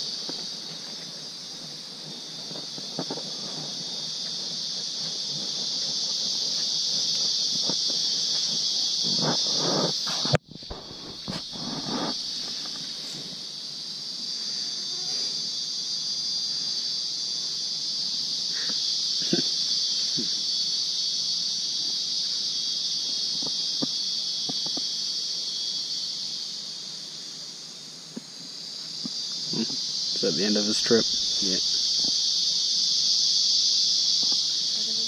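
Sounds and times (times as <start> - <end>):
insect chorus shrill drone: 0.0 - 35.0.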